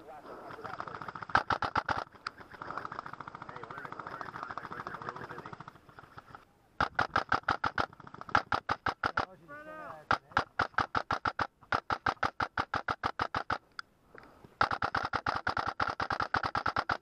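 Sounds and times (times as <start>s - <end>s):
airsoft rifles firing on full auto: 0.5s - 6.2s, 6.8s - 9.4s, 10.1s - 13.6s, 14.6s - 17.0s.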